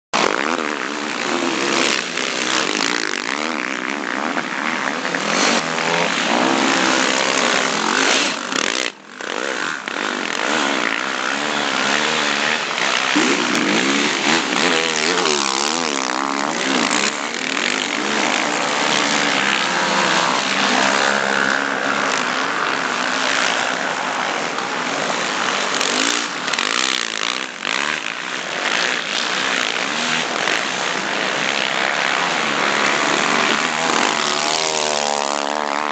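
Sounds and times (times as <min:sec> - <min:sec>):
quad bike engines revving: 0:00.2 - 0:35.9.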